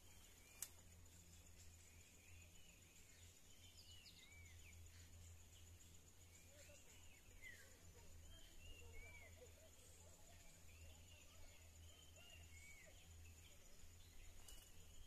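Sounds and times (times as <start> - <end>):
faint bird chirps: 0.0 - 15.0
faint high-pitched whine: 0.0 - 15.0.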